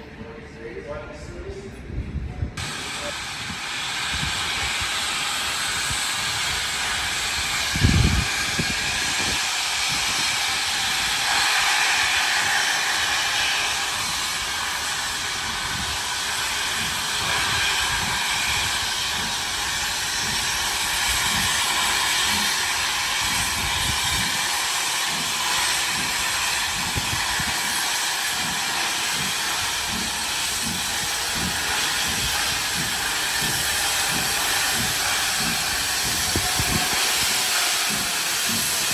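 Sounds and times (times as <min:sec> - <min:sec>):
steam hissing: 0:02.6 - 0:38.9.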